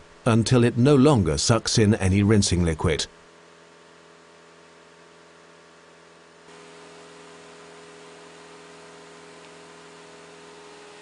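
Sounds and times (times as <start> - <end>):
pump machine hum: 0.0 - 11.0.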